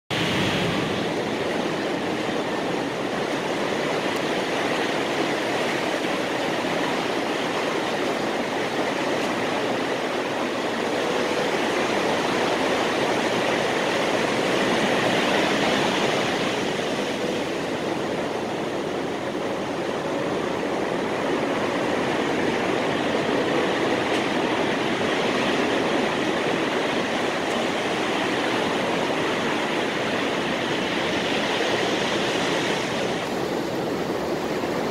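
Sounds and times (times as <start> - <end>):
surf washing on a beach: 0.1 - 34.9.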